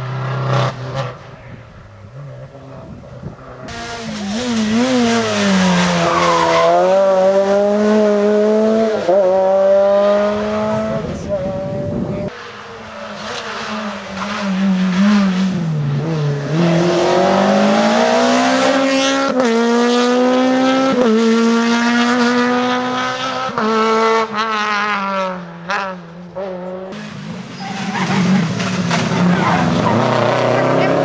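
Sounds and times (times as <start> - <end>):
car engine revving hard: 3.6 - 12.0, 13.2 - 27.2, 28.0 - 31.0.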